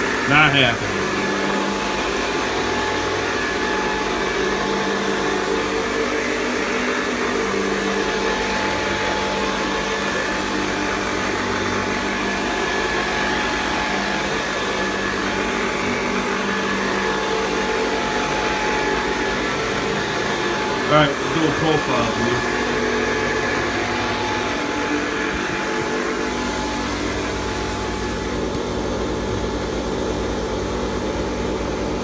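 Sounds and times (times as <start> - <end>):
upright vacuum cleaner running: 0.0 - 32.0
vacuum cleaner whine: 0.0 - 32.0.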